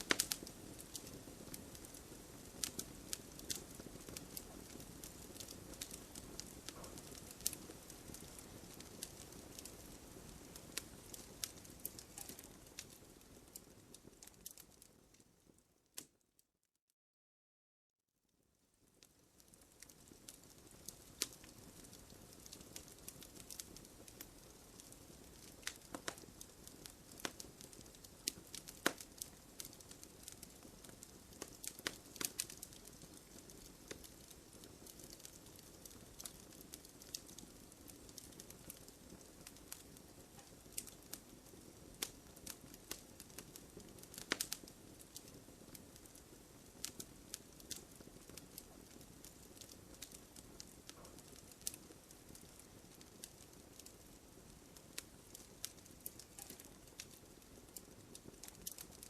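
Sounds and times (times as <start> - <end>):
campfire burning and crackling: 0.0 - 16.1, 18.8 - 59.0.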